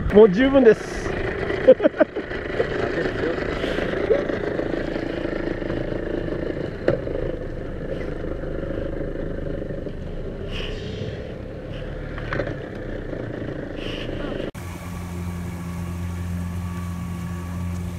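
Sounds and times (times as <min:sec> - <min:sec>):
outboard motor running: 0:00.2 - 0:10.5, 0:11.7 - 0:17.9.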